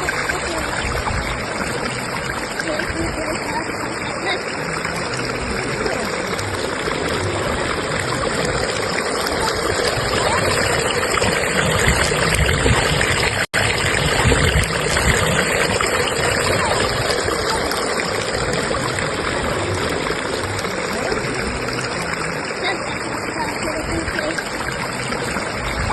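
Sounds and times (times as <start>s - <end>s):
stream water rushing: 0.0s - 25.9s.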